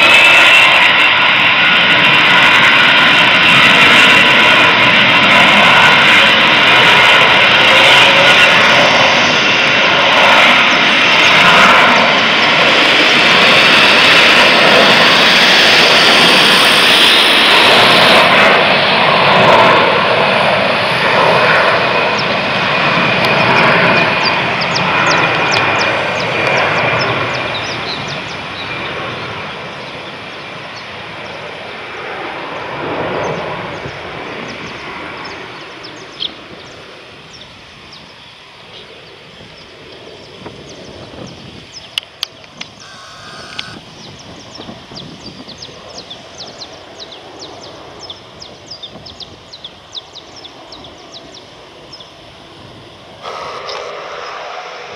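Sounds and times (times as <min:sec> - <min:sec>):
jet engines at high power: 0:00.0 - 0:54.9.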